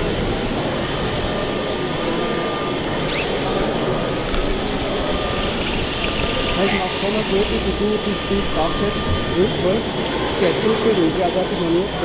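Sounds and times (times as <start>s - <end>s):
crowd chatter: 0.0s - 12.0s
high rising whine: 0.0s - 12.0s.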